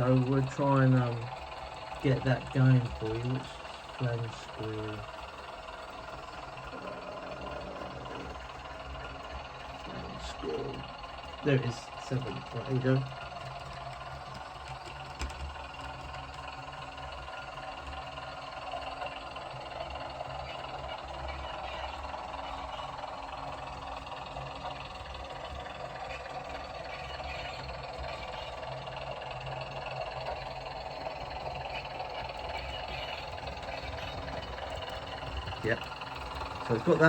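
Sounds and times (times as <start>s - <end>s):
wheel flange screeching: 0.0s - 15.0s, 21.8s - 37.0s
model train engine hum: 0.0s - 37.0s.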